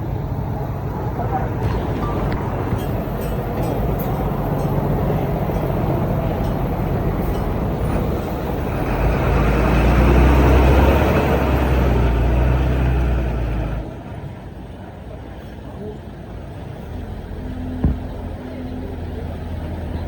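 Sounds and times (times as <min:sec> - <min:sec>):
heavy machinery diesel engine: 0:00.0 - 0:20.0.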